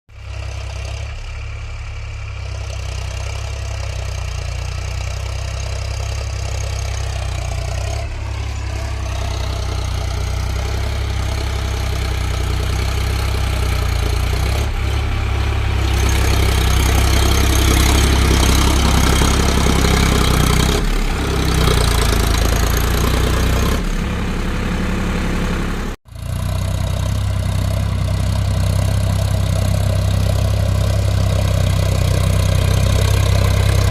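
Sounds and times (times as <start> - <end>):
tractor diesel engine droning: 0.1 - 33.9.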